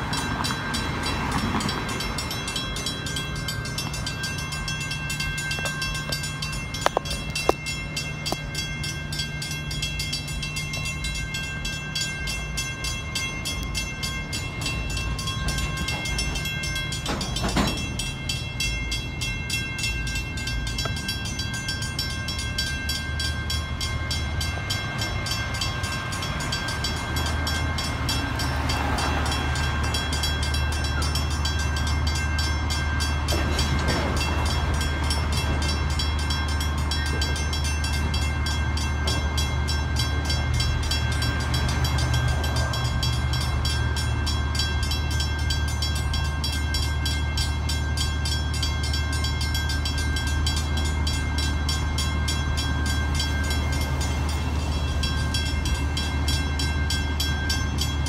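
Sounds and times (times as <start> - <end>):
crossing warning bell ringing: 0.0 - 58.0
freight train rumbling: 0.0 - 58.0.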